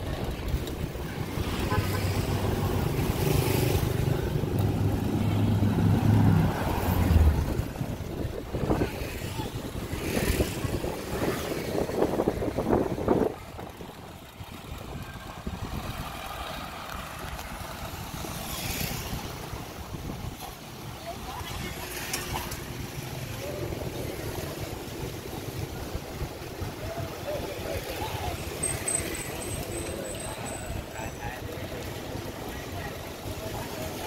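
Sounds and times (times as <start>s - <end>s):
motorbikes and cars passing: 0.0s - 34.0s.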